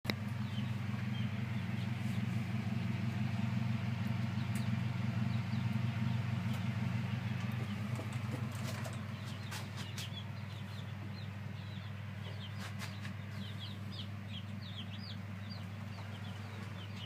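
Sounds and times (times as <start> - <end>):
fan motor hum: 0.1 - 17.0
chicks peeping: 0.3 - 2.4, 4.1 - 17.0.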